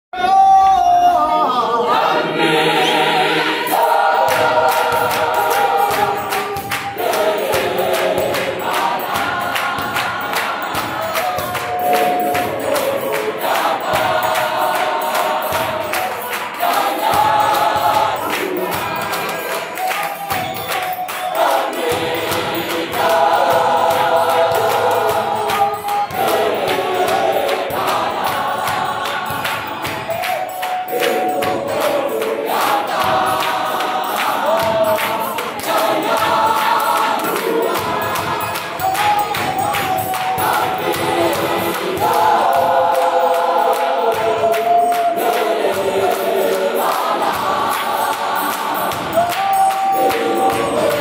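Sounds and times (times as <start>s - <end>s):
gospel choir singing: 0.2s - 51.0s
hand-clapping: 3.7s - 51.0s.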